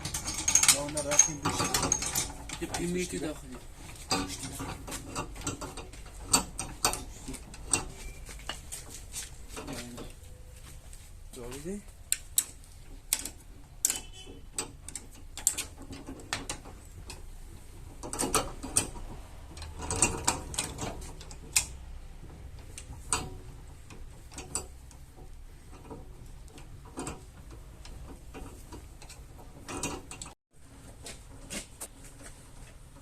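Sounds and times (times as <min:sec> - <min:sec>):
metal tools clicking and clanking: 0:00.0 - 0:10.2, 0:12.1 - 0:30.4.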